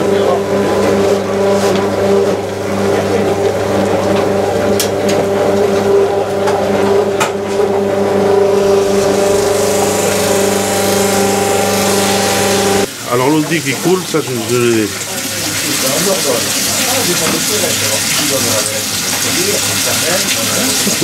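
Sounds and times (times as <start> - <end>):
mechanical hum: 0.0 - 19.8.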